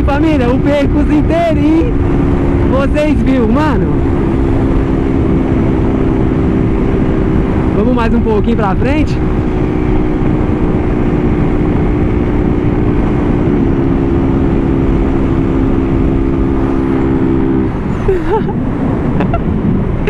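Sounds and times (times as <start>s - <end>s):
motorcycle engine cruising: 0.0s - 20.0s
wind noise: 0.0s - 20.0s.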